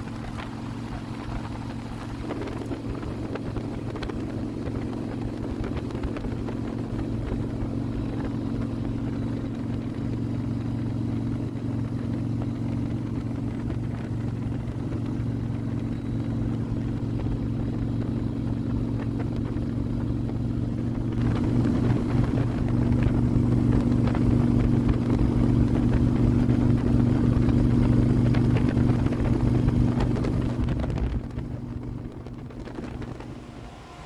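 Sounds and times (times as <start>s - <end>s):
motorcycle engine cruising: 0.0s - 34.0s
wind and road noise: 0.0s - 34.0s.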